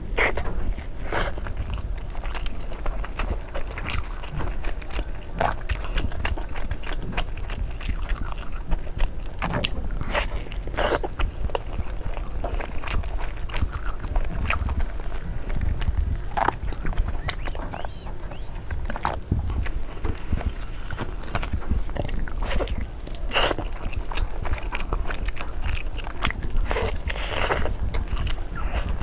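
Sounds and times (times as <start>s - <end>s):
chewing and crunching: 0.0s - 29.0s.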